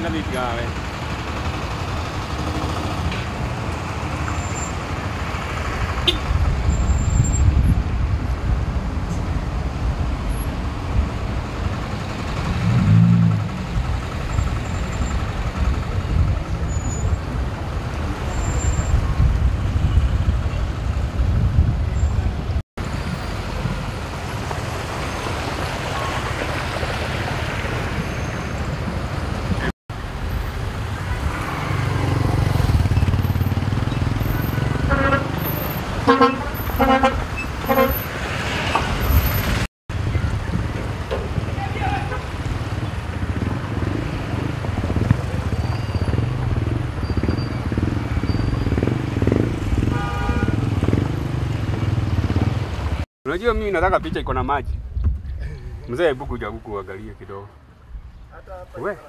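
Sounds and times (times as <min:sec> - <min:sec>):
road traffic engines droning: 0:00.0 - 0:59.0.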